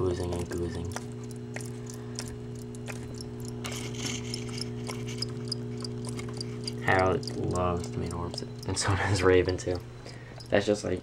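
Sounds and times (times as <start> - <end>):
electrical mains hum: 0.0 - 11.0
faint high ticking: 0.0 - 11.0.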